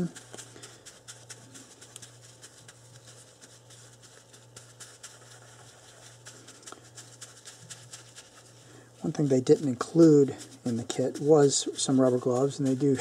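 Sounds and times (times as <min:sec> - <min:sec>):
sponge scrubbing metal part: 0:00.0 - 0:13.0
steady low hum: 0:00.0 - 0:13.0.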